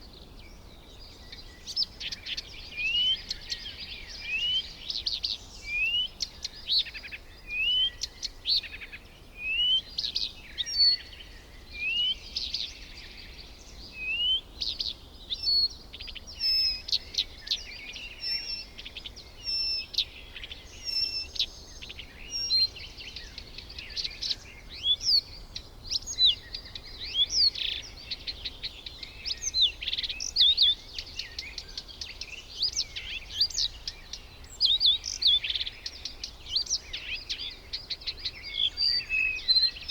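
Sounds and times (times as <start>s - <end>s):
low steady background hiss: 0.0s - 39.9s.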